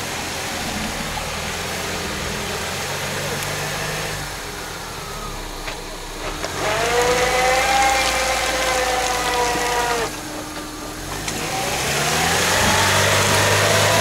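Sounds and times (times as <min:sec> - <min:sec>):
engine running under load: 0:00.0 - 0:14.0
high whine: 0:00.0 - 0:14.0.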